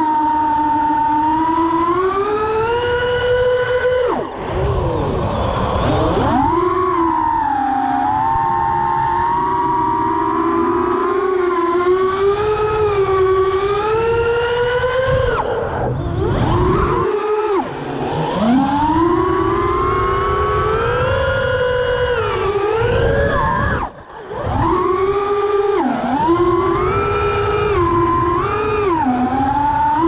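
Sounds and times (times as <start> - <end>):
quadcopter motors whining: 0.0 - 30.0
wind rushing over microphone: 1.2 - 30.0.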